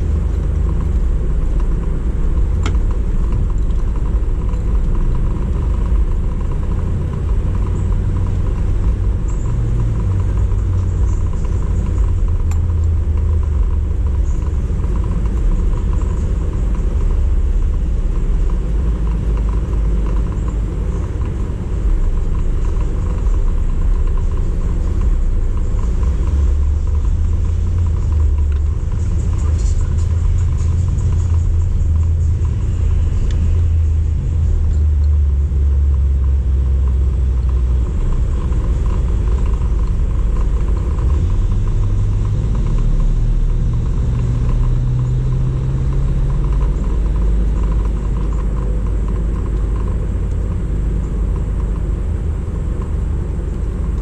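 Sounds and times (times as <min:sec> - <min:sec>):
motor vehicle engine rumble: 0:00.0 - 0:54.0.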